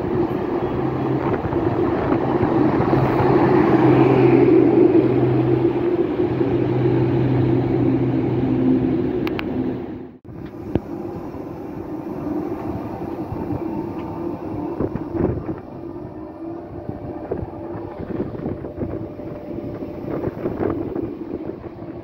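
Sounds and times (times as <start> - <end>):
electric train moving slowly: 0.0 - 22.0.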